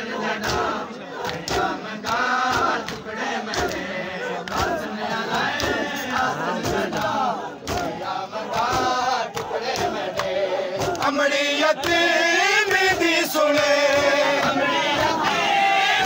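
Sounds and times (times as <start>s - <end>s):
men chanting together: 0.0s - 16.0s
hands slapping chests: 0.3s - 15.5s.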